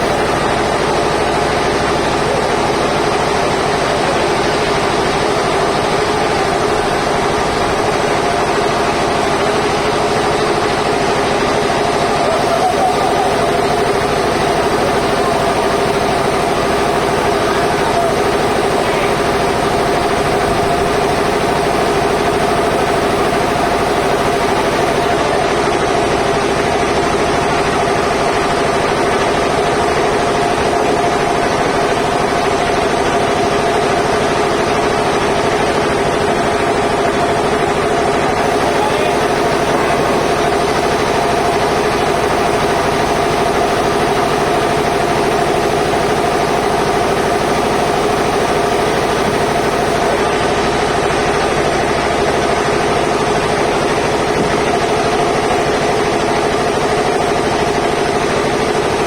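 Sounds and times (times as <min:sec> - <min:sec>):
band saw machinery droning: 0:00.0 - 0:59.0
large engine running: 0:00.0 - 0:59.0.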